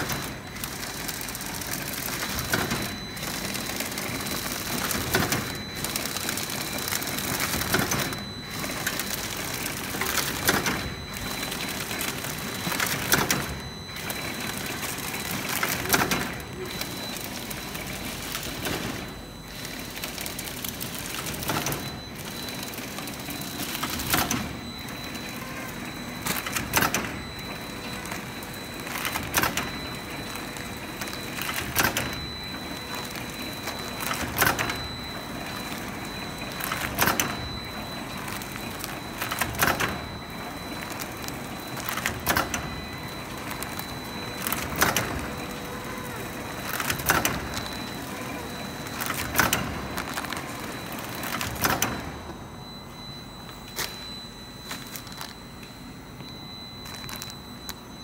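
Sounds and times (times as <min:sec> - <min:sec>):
machine humming with high whine: 0:00.0 - 0:58.0.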